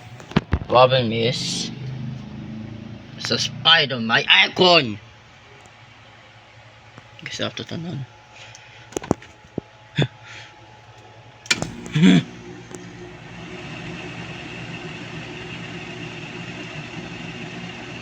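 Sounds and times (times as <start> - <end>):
air conditioner running: 2.5 - 18.0.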